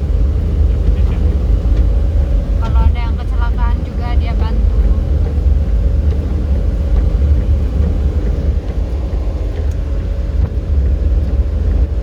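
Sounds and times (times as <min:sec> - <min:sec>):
faint constant hum: 0:00.0 - 0:12.0
vehicle rumble driving on road: 0:00.0 - 0:12.0.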